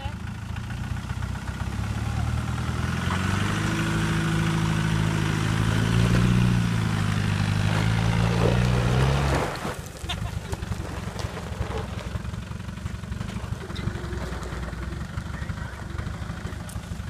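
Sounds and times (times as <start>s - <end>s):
engine running under load: 0.0s - 17.0s.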